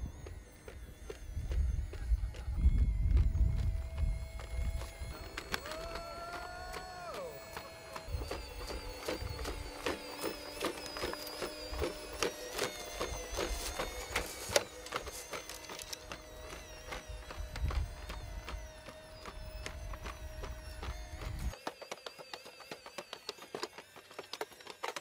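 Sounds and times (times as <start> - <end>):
robot mechanical whine: 0.0 - 25.0.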